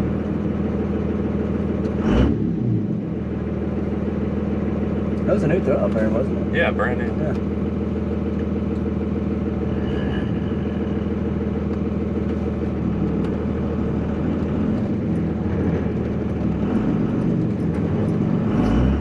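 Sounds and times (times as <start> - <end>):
diesel truck engine in low gear: 0.0 - 19.0.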